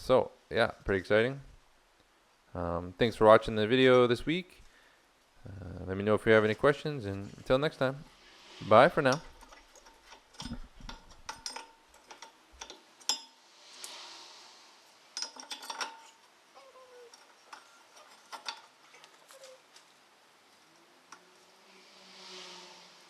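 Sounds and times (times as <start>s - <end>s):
soft hiss: 0.0s - 23.0s.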